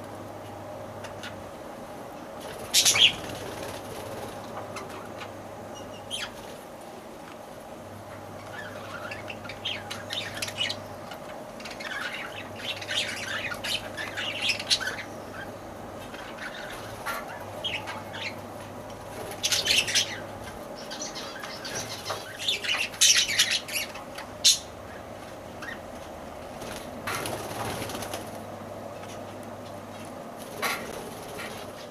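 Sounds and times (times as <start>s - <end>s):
low steady hum: 0.0s - 31.9s
lovebirds chirping and squawking: 0.9s - 1.6s, 2.4s - 6.6s, 8.1s - 28.4s, 30.4s - 31.9s.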